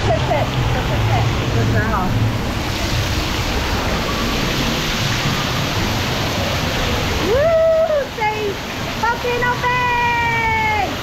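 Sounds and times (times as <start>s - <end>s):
water spraying and falling: 0.0s - 11.0s.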